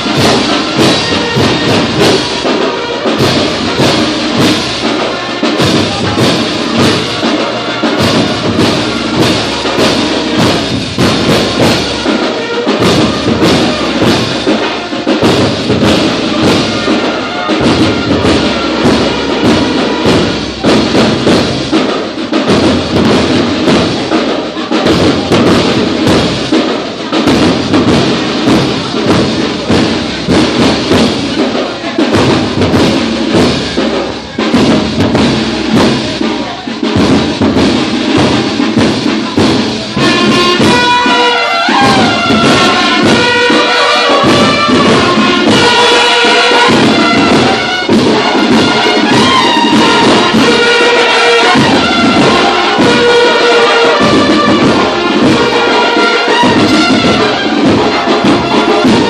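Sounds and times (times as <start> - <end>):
bass drum: 0.0 - 7.2, 7.9 - 59.0
snare drums: 0.0 - 59.0.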